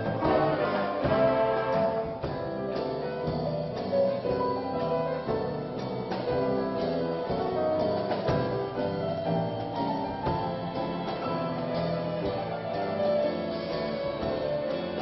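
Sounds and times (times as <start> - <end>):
small orchestra playing: 0.0 - 15.0.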